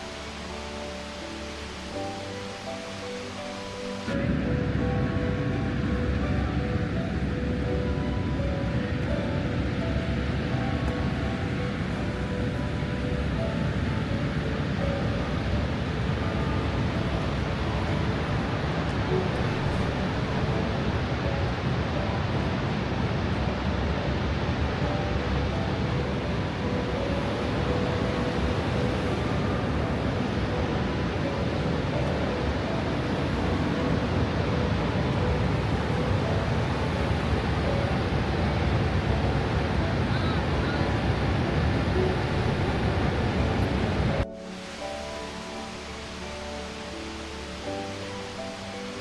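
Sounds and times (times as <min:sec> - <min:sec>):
waterfall roar: 0:00.0 - 0:49.0.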